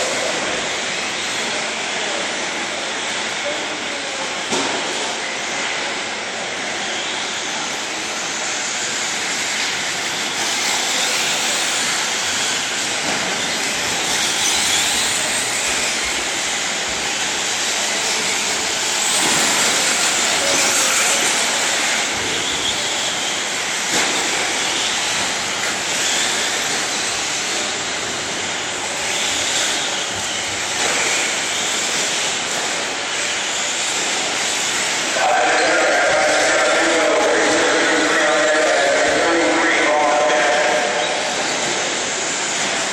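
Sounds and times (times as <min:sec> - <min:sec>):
radio-controlled trucks racing: 0:00.0 - 0:42.9.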